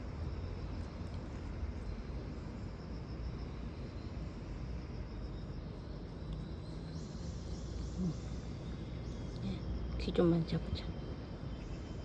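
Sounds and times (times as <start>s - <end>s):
crickets chirping: 0.0s - 12.0s
low rumble and hiss: 0.0s - 12.0s.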